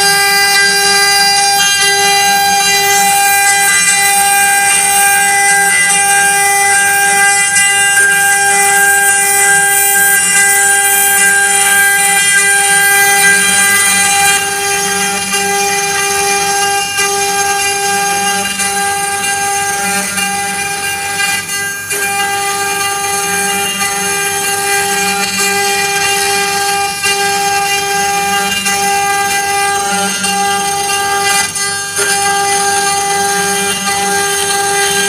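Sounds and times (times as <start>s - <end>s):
router spindle whining: 0.0s - 35.0s.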